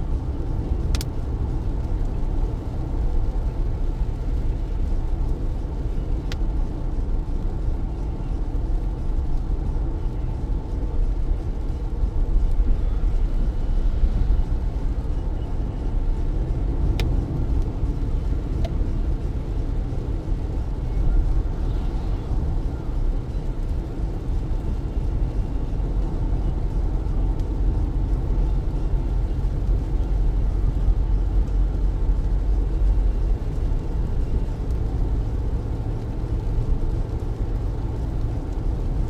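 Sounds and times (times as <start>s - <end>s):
rain: 0.0s - 39.0s
tyre and road noise: 0.0s - 39.0s.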